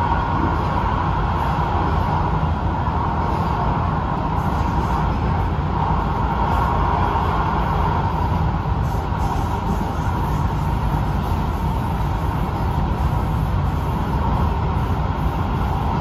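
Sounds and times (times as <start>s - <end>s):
steady mid-pitched hum: 0.0s - 16.0s
wheels rumbling on rail: 0.0s - 16.0s.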